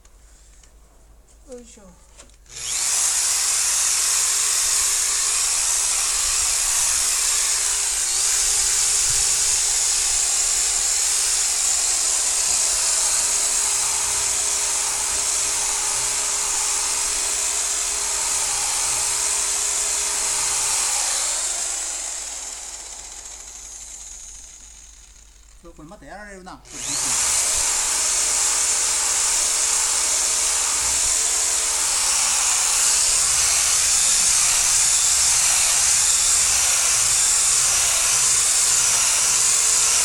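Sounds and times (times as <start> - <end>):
electric car polisher buffing: 2.5 - 25.6, 26.7 - 40.0.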